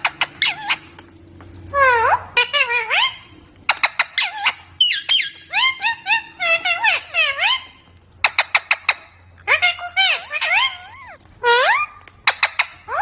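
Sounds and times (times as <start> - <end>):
parrot chirping: 0.0 - 1.0, 1.7 - 13.0.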